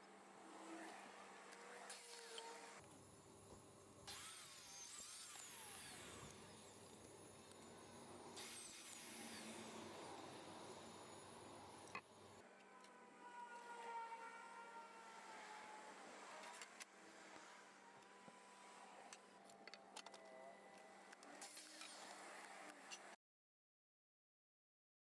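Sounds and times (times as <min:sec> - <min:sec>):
faint miter saw cutting wood: 0:00.0 - 0:02.8, 0:04.0 - 0:19.4, 0:20.0 - 0:23.2.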